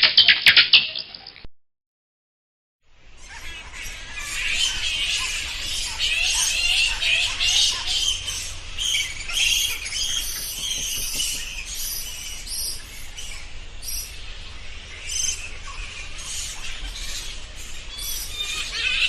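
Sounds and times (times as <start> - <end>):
bats squeaking and chittering: 3.2 - 19.0.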